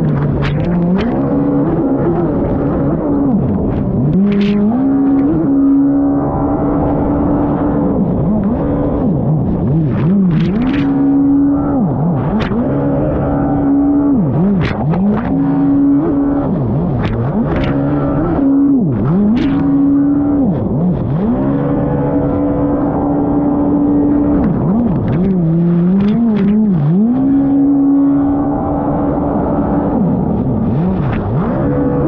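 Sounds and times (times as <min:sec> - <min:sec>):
jet ski engine revving: 0:00.0 - 0:32.0.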